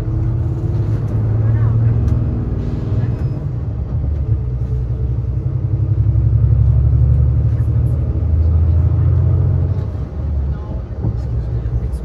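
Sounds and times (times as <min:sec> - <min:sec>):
bus engine and tyres droning: 0:00.0 - 0:12.0.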